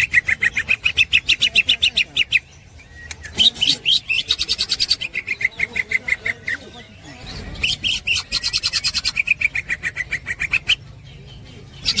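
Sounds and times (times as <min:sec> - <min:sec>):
bird chattering: 0:00.0 - 0:12.0.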